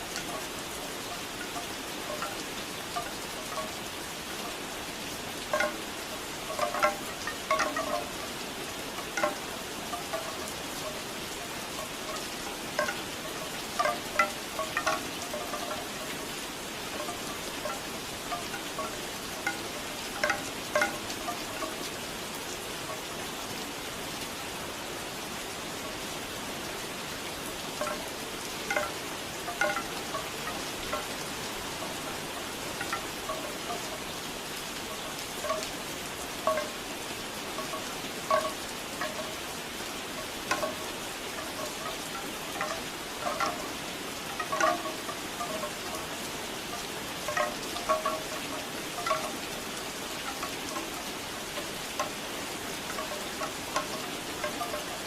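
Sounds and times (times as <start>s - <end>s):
bamboo wind chimes clonking: 0.0s - 23.3s, 25.8s - 55.0s
steady falling rain: 0.0s - 55.0s.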